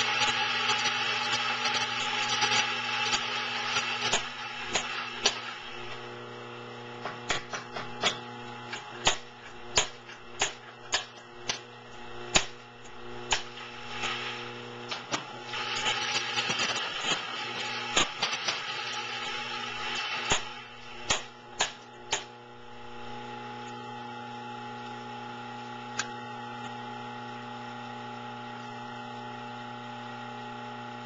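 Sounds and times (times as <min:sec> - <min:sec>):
espresso machine motor buzz: 0:00.0 - 0:31.0.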